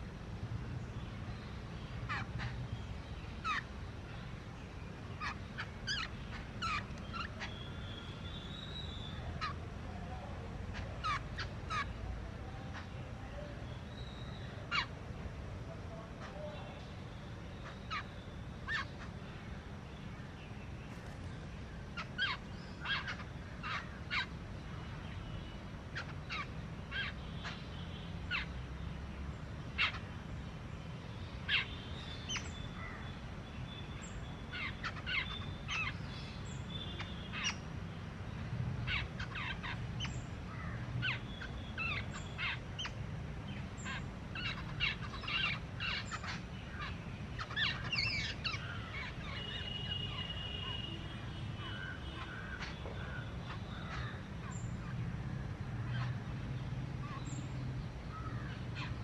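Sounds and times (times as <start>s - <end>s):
birds calling: 0.8s - 59.0s.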